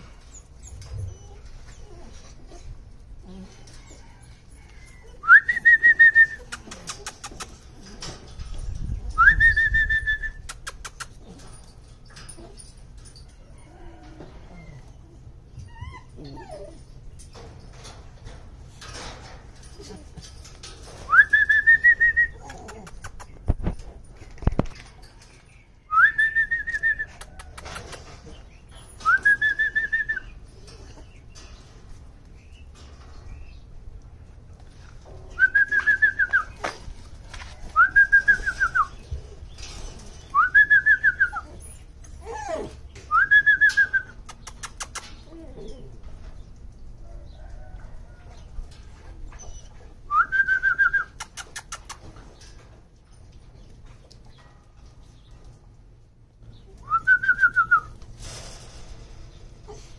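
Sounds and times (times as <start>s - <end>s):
puppies whining: 0.0s - 17.8s, 18.9s - 33.8s, 34.4s - 46.6s, 48.8s - 52.1s, 59.6s - 59.9s.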